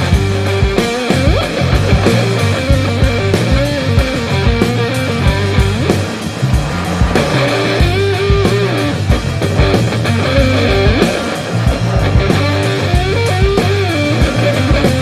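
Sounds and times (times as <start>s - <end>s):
bass: 0.0s - 15.0s
guitar with bending notes: 0.0s - 15.0s
steady drum beat: 0.0s - 15.0s.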